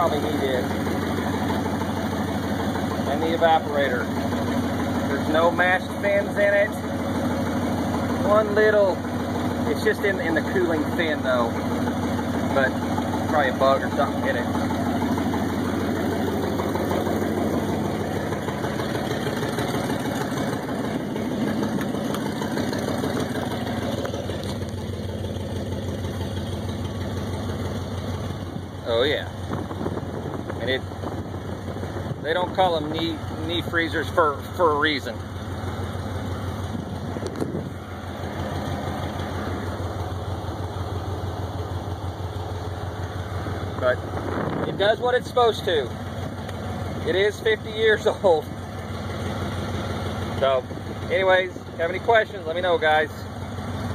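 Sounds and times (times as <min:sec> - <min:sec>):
car engine idling: 0:00.0 - 0:53.9
exhaust leak hissing: 0:00.0 - 0:53.9.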